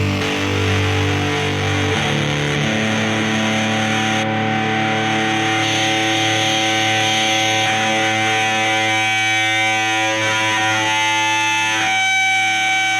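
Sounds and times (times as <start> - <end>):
distorted electric guitar chords: 0.0 - 12.9.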